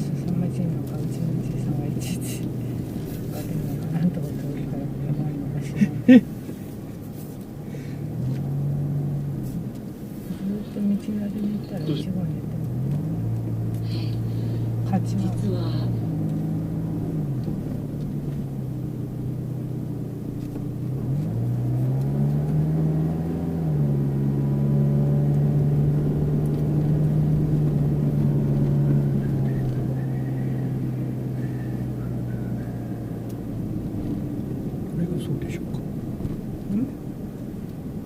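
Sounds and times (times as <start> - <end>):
low road rumble: 0.0 - 38.0
small car engine running: 0.0 - 38.0.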